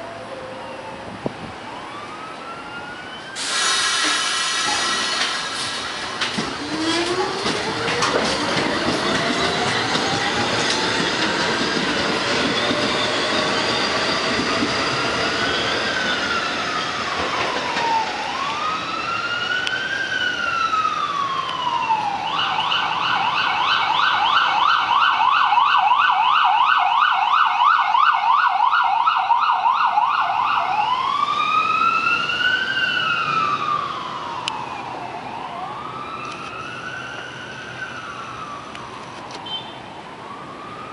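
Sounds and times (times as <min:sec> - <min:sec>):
emergency siren wailing and yelping: 0:00.0 - 0:03.4, 0:06.5 - 0:40.9.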